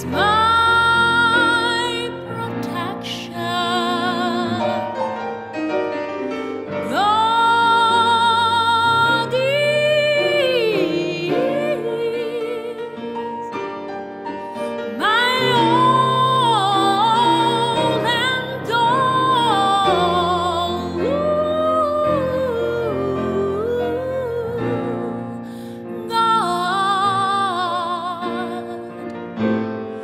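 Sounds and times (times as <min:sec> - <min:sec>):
soprano singing operatic notes: 0:00.0 - 0:05.2, 0:06.6 - 0:13.8, 0:14.6 - 0:29.2
grand piano accompaniment: 0:00.0 - 0:30.0.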